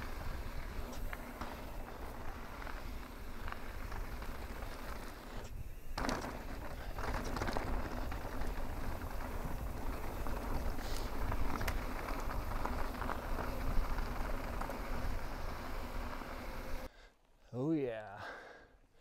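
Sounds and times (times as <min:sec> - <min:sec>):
bike clicks and knocks: 0:00.0 - 0:16.9
bike tyres rumbling on trail: 0:00.0 - 0:16.9
wind buffeting microphone: 0:00.0 - 0:16.9.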